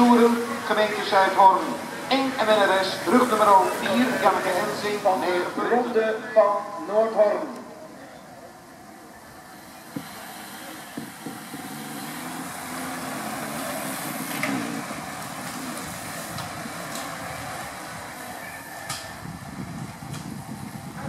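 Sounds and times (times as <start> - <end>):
bicycle tyres rushing on road: 0.0 - 21.0.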